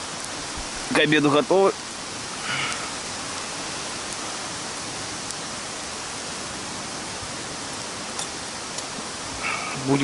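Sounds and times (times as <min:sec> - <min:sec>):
bonfire hissing and popping: 0:00.0 - 0:10.0.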